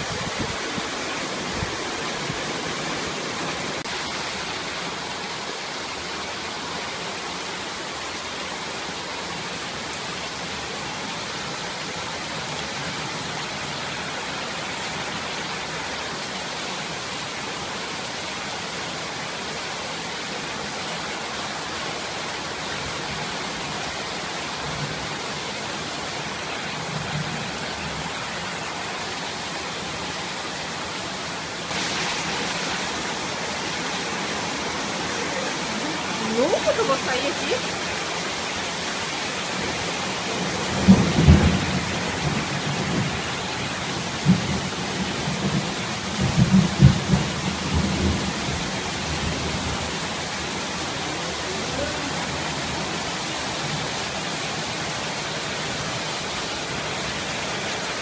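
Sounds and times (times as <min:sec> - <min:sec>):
heavy rain pouring: 0:00.0 - 0:58.0
runoff water rushing: 0:00.0 - 0:58.0.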